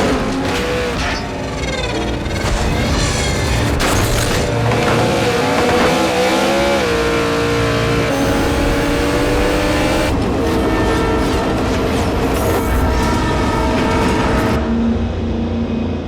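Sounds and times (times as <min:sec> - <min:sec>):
drag racing engines revving: 0:00.0 - 0:14.6.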